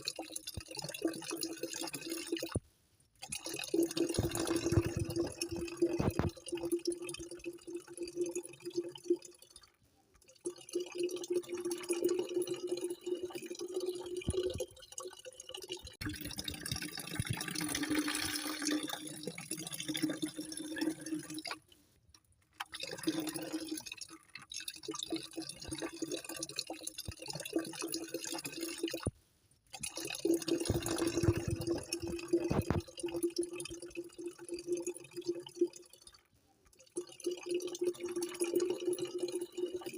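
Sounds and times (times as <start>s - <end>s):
water trickling: 0.0s - 2.6s, 3.2s - 21.8s, 22.6s - 39.9s.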